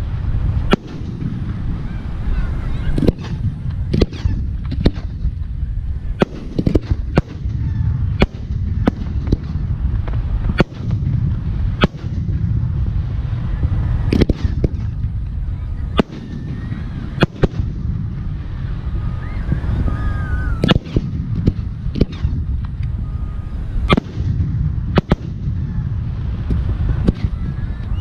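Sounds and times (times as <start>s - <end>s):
continuous low rumble: 0.0s - 28.0s
fireworks bursting: 0.0s - 28.0s.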